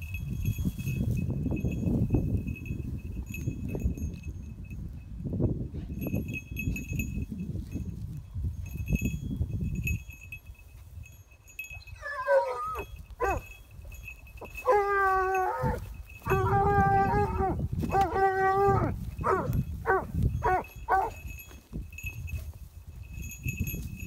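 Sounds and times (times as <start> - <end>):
rustling and footsteps in grass: 0.0 - 4.4, 6.7 - 11.6, 12.4 - 24.0
dog collar bell tinkling: 0.0 - 24.0.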